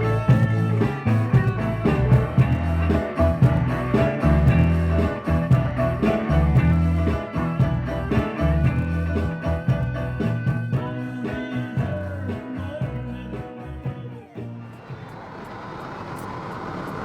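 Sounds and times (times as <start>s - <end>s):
bass guitar: 0.0s - 14.9s
drums: 0.0s - 17.0s
electric guitar: 0.0s - 17.0s.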